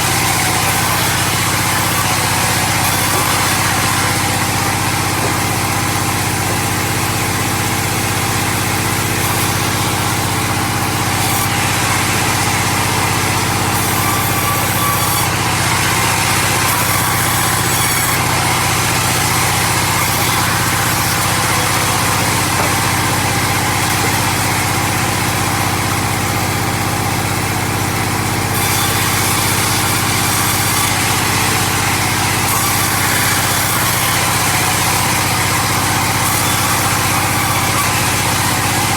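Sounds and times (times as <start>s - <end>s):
sawmill saw noise: 0.0s - 38.9s.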